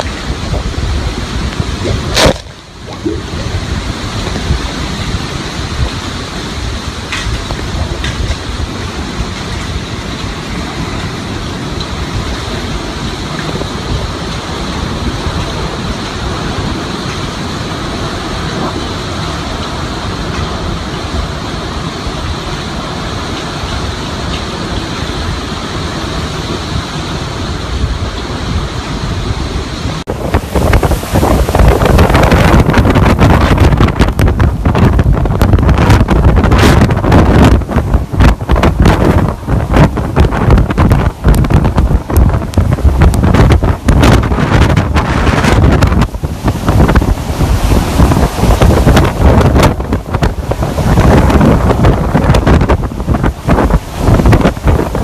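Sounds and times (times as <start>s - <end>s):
hurricane wind rushing: 0.0s - 55.0s
wind buffeting microphone: 0.0s - 55.0s.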